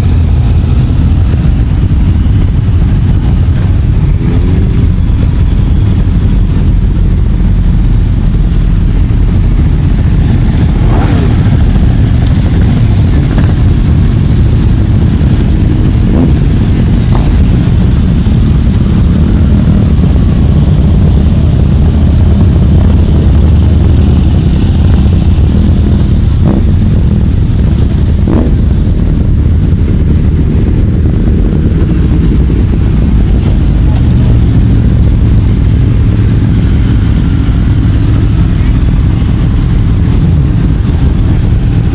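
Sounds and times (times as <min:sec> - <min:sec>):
motorcycle engine revs: 0:00.0 - 0:41.9.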